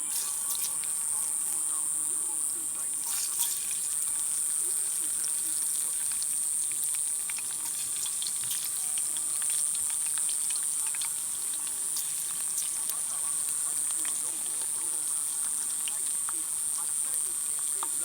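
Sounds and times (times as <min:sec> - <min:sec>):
faint murmuring voices: 0:00.0 - 0:18.0
high-pitched insect chirring: 0:00.0 - 0:18.0.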